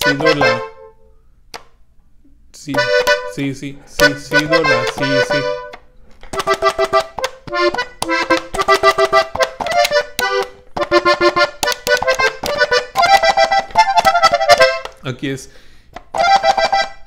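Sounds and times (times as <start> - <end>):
button accordion playing polka: 0.0 - 1.1, 2.7 - 15.0, 16.0 - 17.0.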